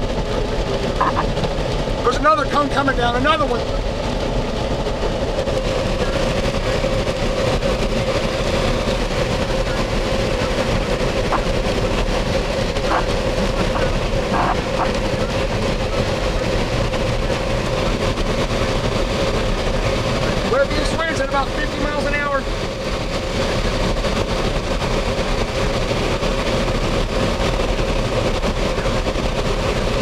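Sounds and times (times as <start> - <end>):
car road and engine noise: 0.0 - 30.0
constant hum: 0.0 - 30.0.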